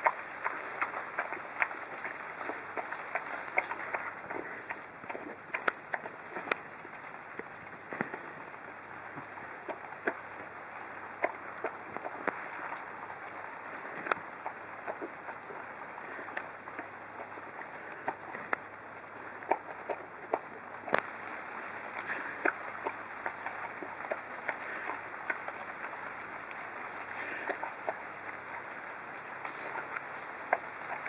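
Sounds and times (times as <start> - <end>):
dog chewing and smacking: 0.0 - 31.0.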